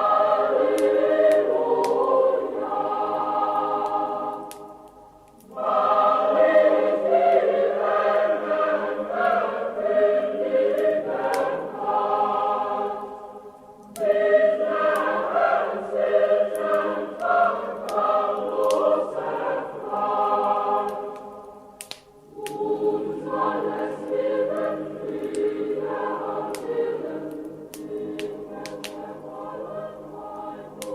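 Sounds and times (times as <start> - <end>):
choir singing: 0.0 - 30.9.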